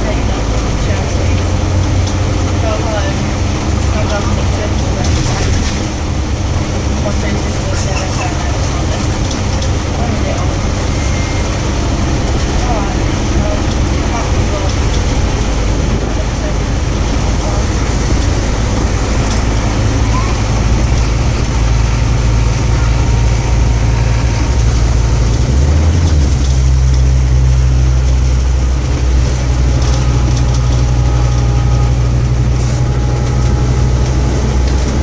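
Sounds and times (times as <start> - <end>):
bus engine drone from inside: 0.0 - 35.0.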